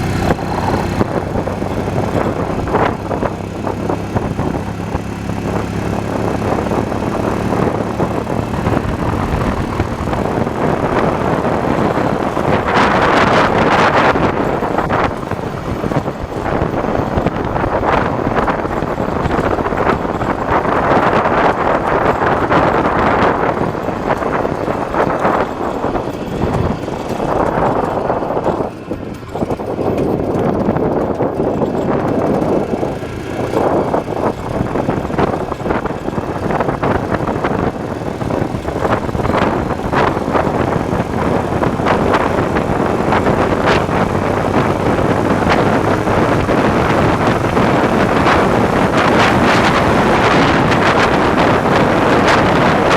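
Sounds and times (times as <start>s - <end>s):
two-stroke motorcycle engine running: 0.0s - 52.9s
wind rushing over microphone: 0.0s - 52.9s.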